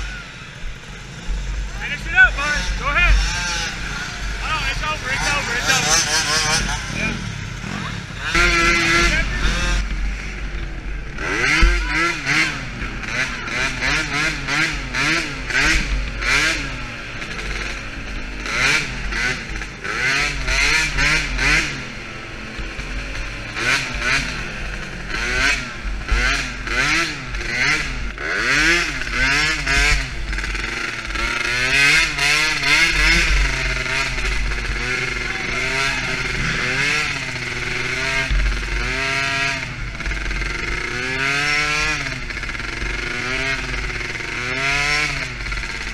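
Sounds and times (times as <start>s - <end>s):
small quad engine revving: 0.0s - 45.9s.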